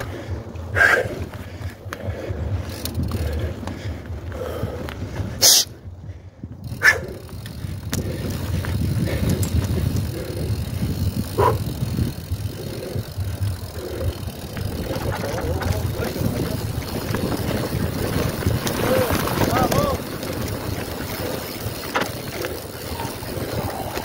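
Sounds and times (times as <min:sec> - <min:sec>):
bike rattles and knocks: 0:00.0 - 0:24.0
bike tyres rumbling on dirt: 0:00.0 - 0:24.0.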